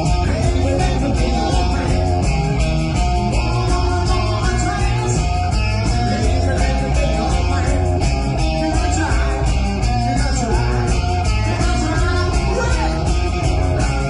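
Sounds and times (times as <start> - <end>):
bass and drums: 0.0 - 14.0
electric guitar: 0.0 - 14.0.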